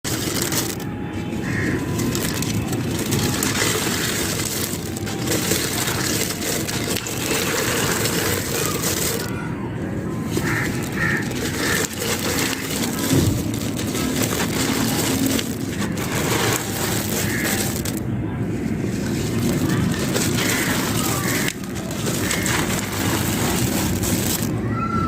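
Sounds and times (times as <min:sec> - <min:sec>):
cement chunks crunching: 0:00.0 - 0:09.4, 0:10.0 - 0:24.7.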